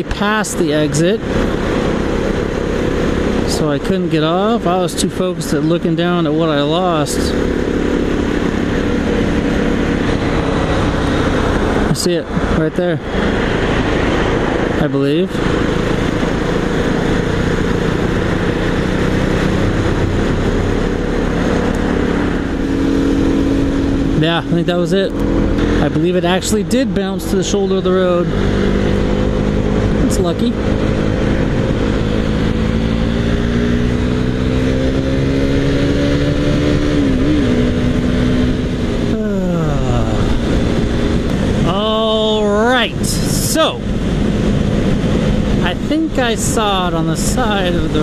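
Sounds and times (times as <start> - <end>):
motorcycle engine cruising: 0.0 - 48.0
wind and road noise: 0.0 - 48.0.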